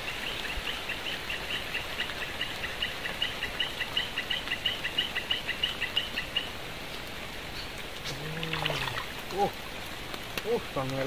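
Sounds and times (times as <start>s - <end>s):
rain hiss: 0.0s - 11.0s
running water: 0.0s - 11.0s.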